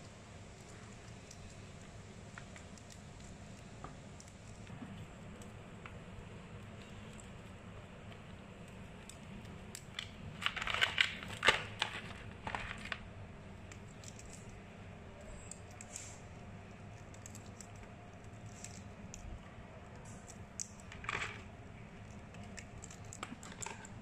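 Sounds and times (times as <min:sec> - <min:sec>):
crab shells cracking: 0:00.6 - 0:24.0.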